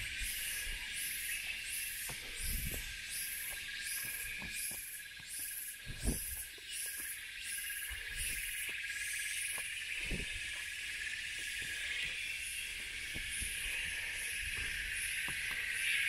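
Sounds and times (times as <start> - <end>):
insects buzzing shrilly: 0.0 - 16.0
pulsing insect call: 0.0 - 16.0.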